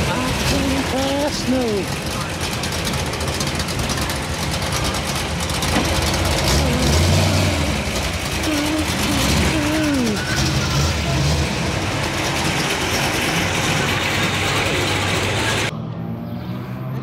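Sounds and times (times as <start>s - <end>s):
car engine idling: 0.0s - 15.7s.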